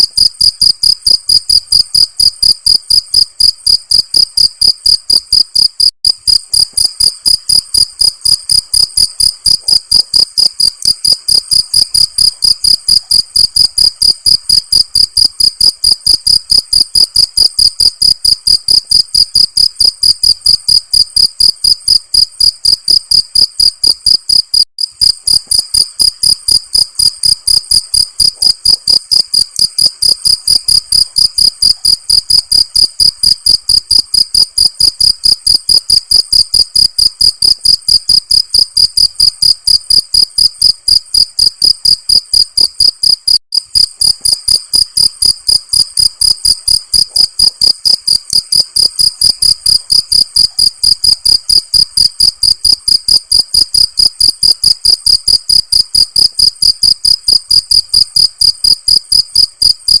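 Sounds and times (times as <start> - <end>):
cricket chirping: 0.1 - 60.0.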